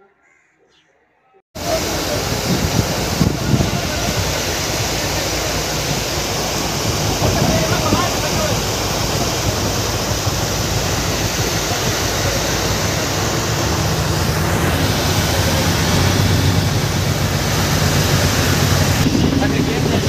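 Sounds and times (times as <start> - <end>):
low boat engine hum: 1.6 - 20.0
sea water rushing: 1.6 - 20.0
wind rushing: 1.6 - 20.0.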